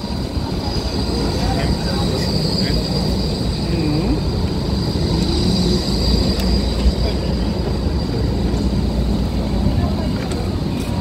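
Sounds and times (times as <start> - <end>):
tram rumble: 0.0 - 11.0.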